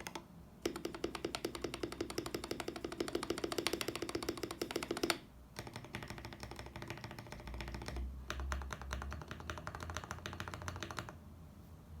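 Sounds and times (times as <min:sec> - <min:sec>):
typing on mechanical keyboard: 0:00.0 - 0:11.2.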